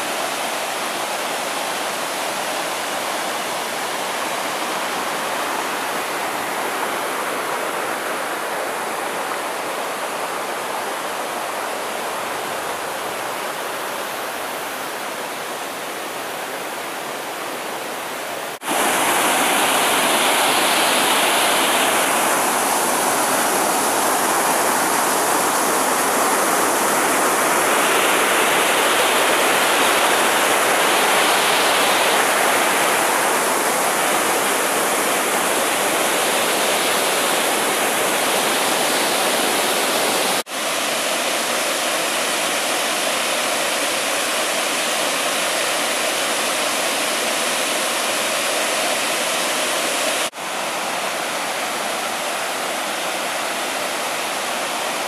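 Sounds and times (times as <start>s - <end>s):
stream rushing over boulders: 0.0s - 55.0s.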